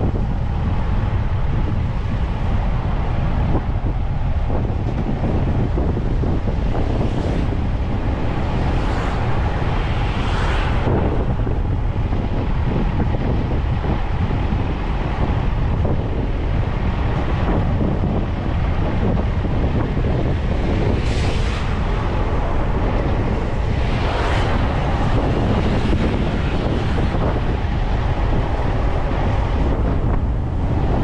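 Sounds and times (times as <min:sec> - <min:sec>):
low rumble of vehicle driving: 0:00.0 - 0:31.0
wind rushing over microphone: 0:00.0 - 0:31.0.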